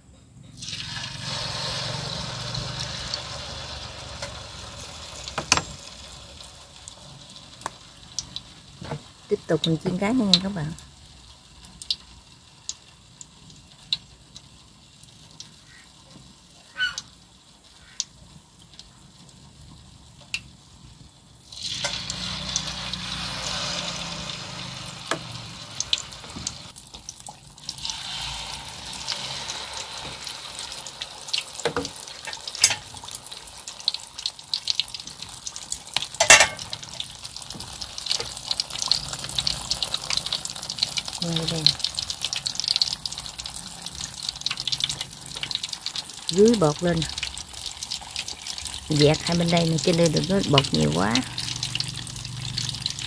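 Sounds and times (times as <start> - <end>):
fritters sizzling in hot oil: 0.1 - 53.0.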